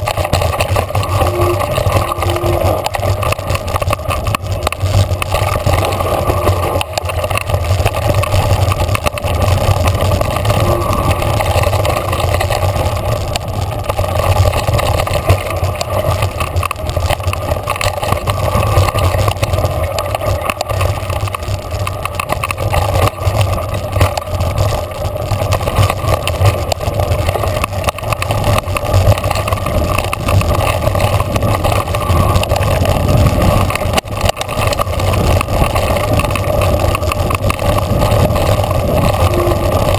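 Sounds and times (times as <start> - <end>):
bike knocks and rattles: 0.0 - 39.9
bike tyres rolling on dirt: 0.0 - 39.9
wind on microphone: 0.0 - 39.9.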